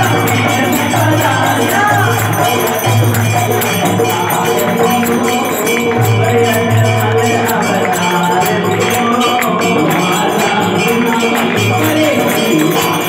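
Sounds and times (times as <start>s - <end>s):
devotional music with steady beat: 0.0s - 13.0s
jingling percussion: 0.0s - 13.0s.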